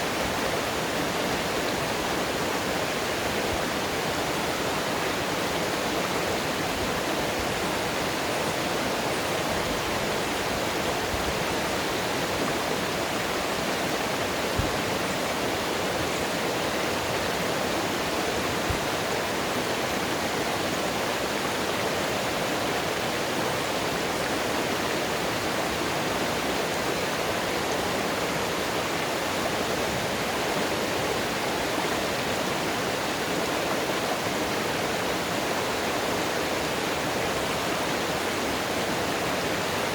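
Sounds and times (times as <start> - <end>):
flowing mountain water: 0.0 - 39.9.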